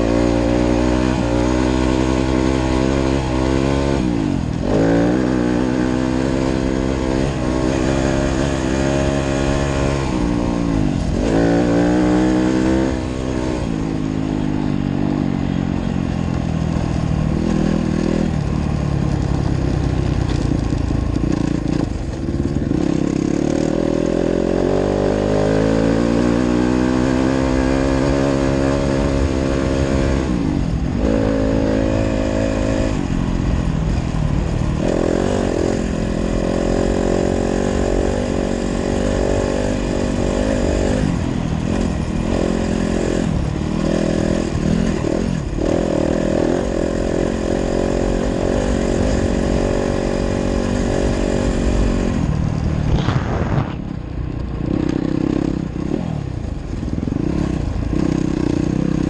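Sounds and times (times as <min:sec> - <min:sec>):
dirt bike engine revving: 0:00.0 - 0:54.0, 0:54.6 - 0:59.0.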